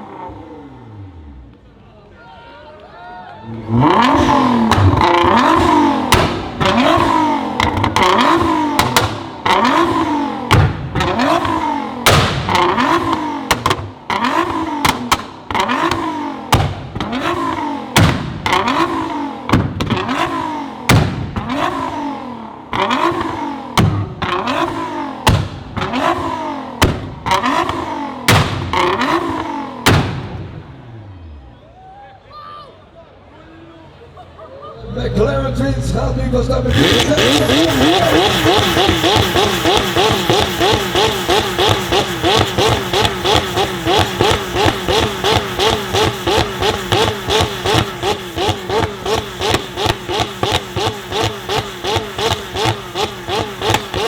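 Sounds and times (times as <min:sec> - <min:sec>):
sports car engine revving: 0:00.0 - 0:01.8, 0:03.5 - 0:31.6, 0:34.8 - 0:54.0
exhaust pops and bangs: 0:04.1 - 0:30.8, 0:36.7 - 0:54.0.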